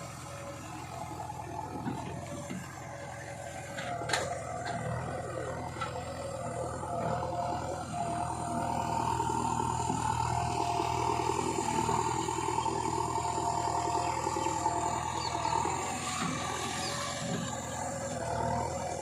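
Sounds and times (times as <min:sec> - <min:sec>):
diesel machinery engine running: 0:00.0 - 0:19.0.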